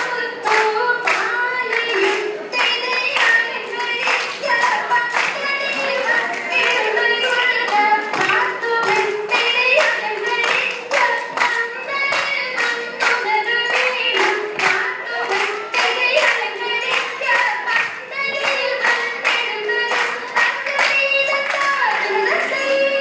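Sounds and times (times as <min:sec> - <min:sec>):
person singing: 0:00.0 - 0:23.0
rhythmic hand claps: 0:00.0 - 0:23.0.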